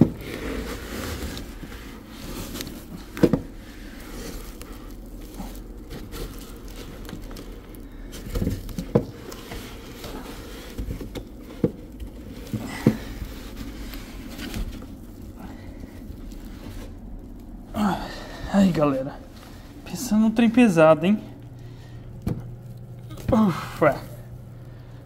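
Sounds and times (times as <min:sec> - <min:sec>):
plastic wrapping rustling and scraping: 0:00.0 - 0:25.0.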